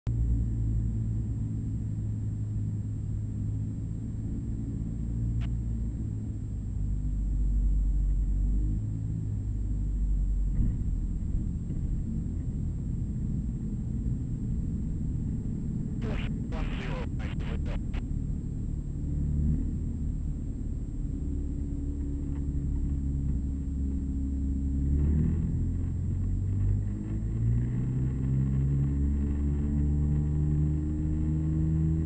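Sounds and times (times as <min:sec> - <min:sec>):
light aircraft engine drone: 0:00.1 - 0:31.6.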